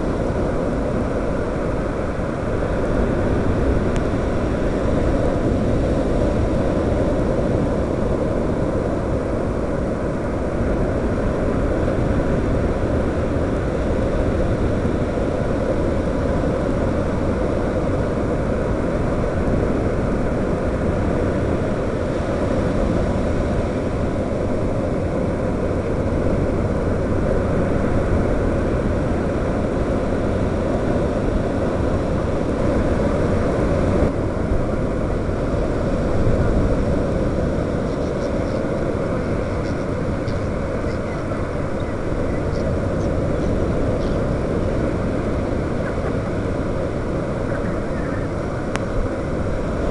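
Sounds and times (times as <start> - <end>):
quadcopter propellers: 0.0 - 49.9
wind on microphone: 0.0 - 49.9.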